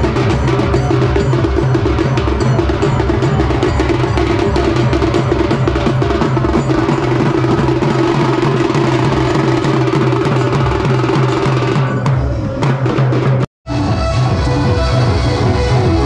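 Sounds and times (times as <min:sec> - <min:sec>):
drummers beating drums: 0:00.0 - 0:13.5.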